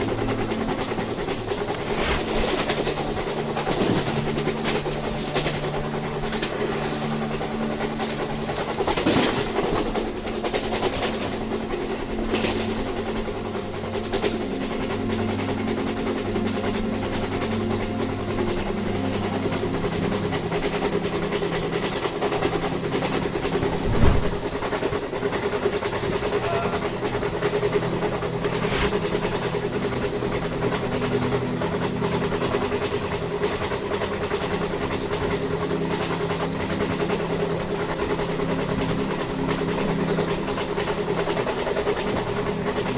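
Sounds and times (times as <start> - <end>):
train mechanical drone: 0.0 - 42.9.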